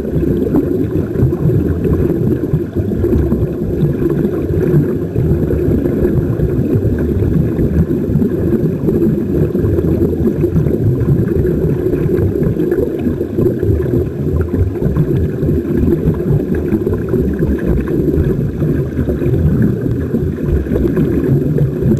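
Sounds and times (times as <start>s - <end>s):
air bubbling from diving helmets: 0.0s - 21.9s
underwater rumble: 0.0s - 21.9s.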